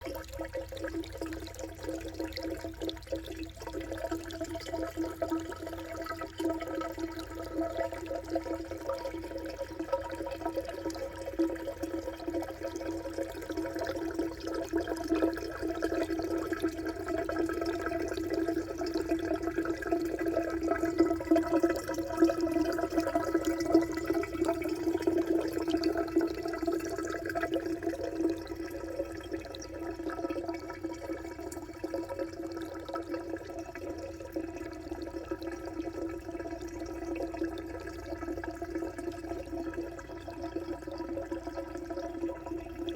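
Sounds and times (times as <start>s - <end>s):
water gurgling into hollow tube: 0.0s - 42.9s.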